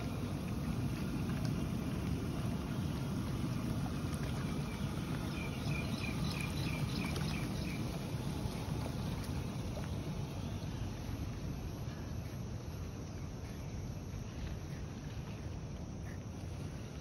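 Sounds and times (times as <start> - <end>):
water jets churning pool water: 0.0 - 17.0.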